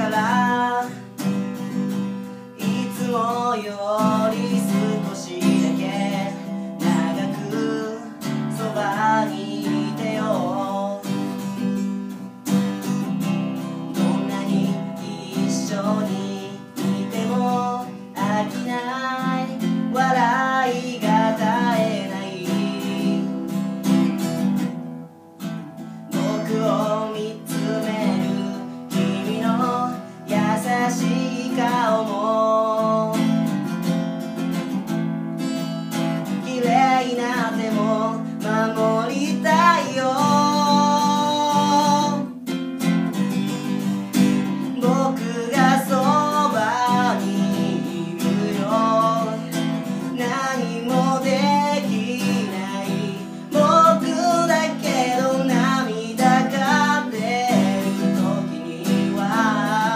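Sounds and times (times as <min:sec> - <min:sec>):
person singing: 0:00.0 - 0:24.4, 0:25.6 - 0:33.9, 0:35.9 - 0:42.5, 0:44.2 - 0:59.9
acoustic guitar strumming: 0:00.0 - 0:59.9.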